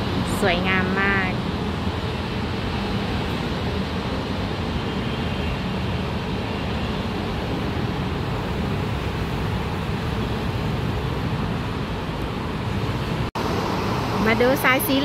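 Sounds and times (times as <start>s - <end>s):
monorail train running: 0.0s - 15.0s.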